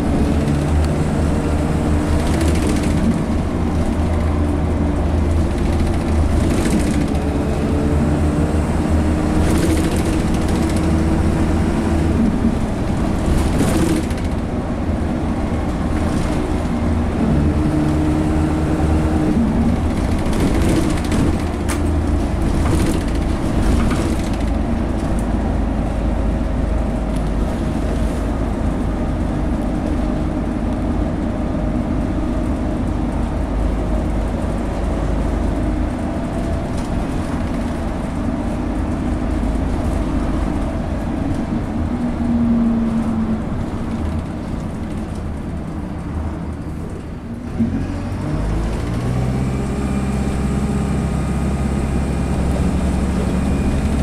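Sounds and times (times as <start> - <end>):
bus diesel engine under load: 0.0 - 54.0.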